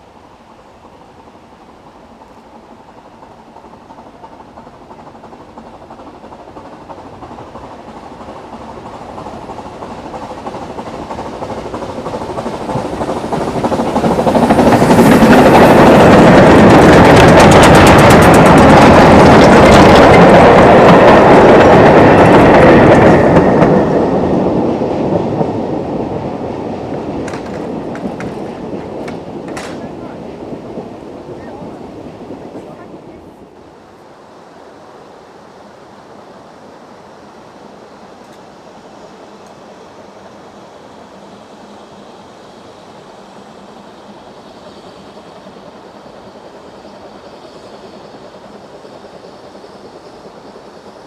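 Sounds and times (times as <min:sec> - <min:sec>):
train passing with wheel clicks: 0:00.0 - 0:51.0.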